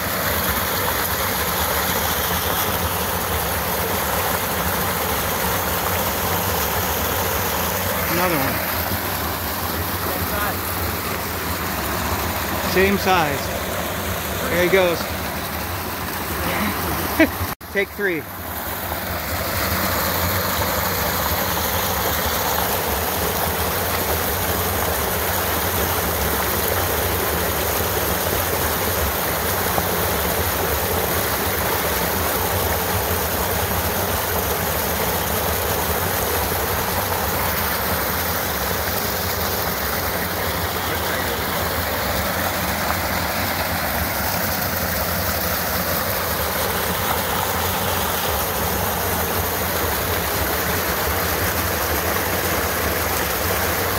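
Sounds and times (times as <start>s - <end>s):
creek cascading over rocks: 0.0s - 53.9s.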